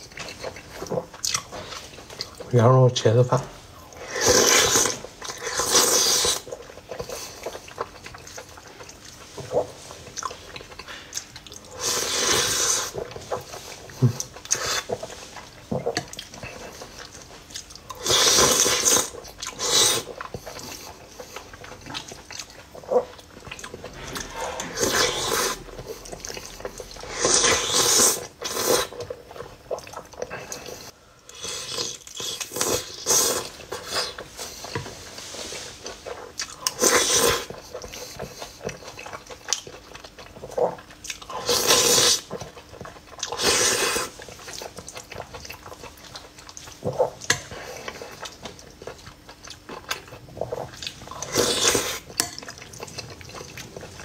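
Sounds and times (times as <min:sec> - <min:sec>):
chewing and smacking: 0:00.0 - 0:02.8, 0:03.4 - 0:54.0.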